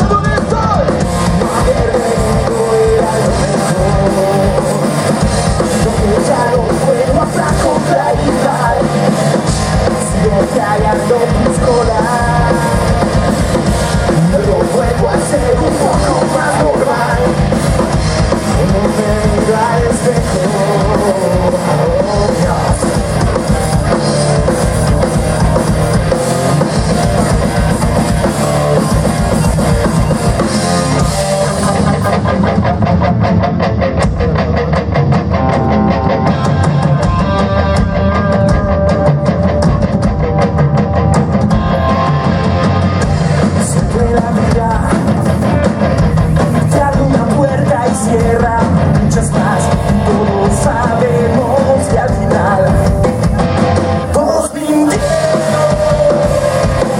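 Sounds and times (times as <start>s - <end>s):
drums fast beat: 0.0s - 56.9s
rock band playing live: 0.0s - 56.9s.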